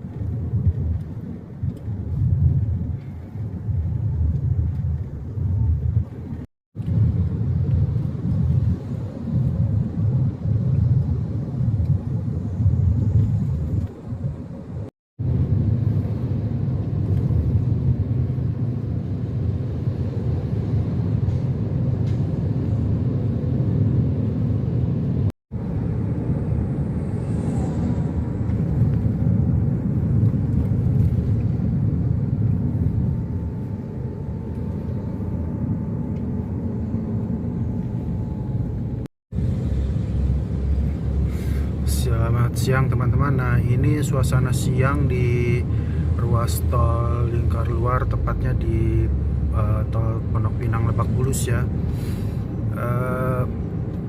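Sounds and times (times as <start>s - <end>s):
vehicle road noise rumble: 0.0s - 54.0s.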